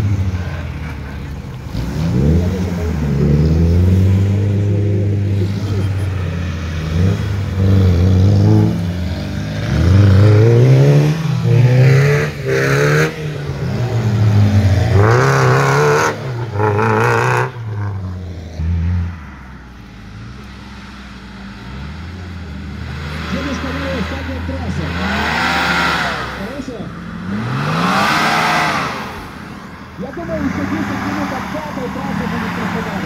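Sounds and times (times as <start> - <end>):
off-road vehicle engines revving: 0.0 - 33.0.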